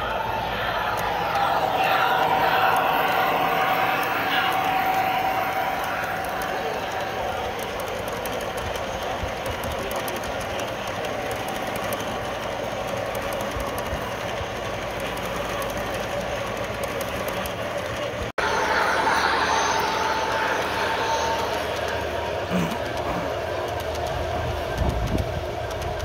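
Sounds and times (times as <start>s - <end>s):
model locomotive whine: 0.0s - 26.0s
model train wheels clicking: 0.0s - 26.0s.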